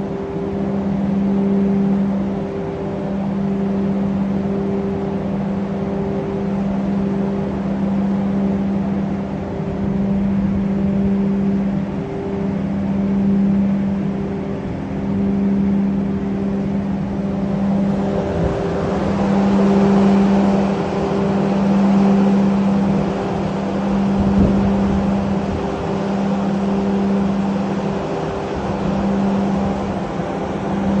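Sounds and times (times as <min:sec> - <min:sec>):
low hum: 0:00.0 - 0:31.0
machinery drone: 0:00.0 - 0:31.0.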